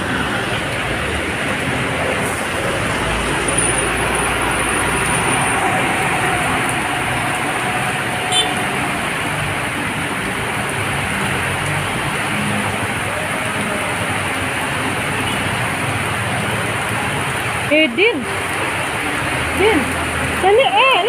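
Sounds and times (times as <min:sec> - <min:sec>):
heavy rain pouring: 0:00.0 - 0:21.0
vehicles driving through floodwater: 0:00.0 - 0:21.0.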